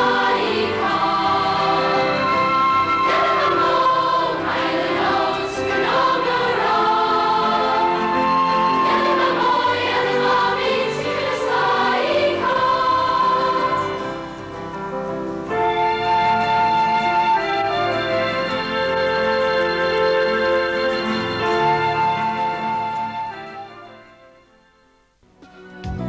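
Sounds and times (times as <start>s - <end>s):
choir holding sustained notes: 0.0s - 24.9s.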